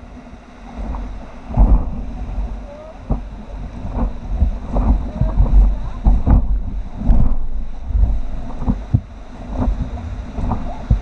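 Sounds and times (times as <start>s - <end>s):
river rapids rushing: 0.0s - 11.0s
wind rumbling on microphone: 0.0s - 11.0s.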